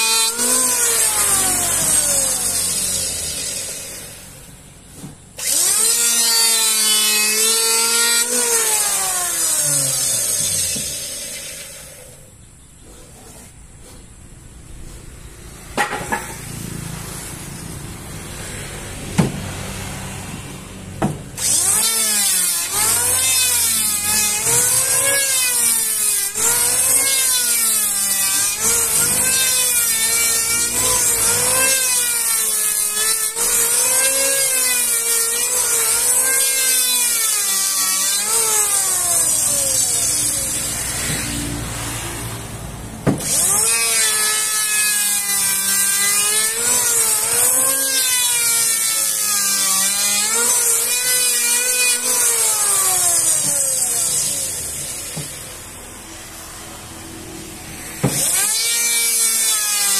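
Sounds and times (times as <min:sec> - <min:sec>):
electric wood planer cutting: 0:00.0 - 0:12.3, 0:15.6 - 0:59.9.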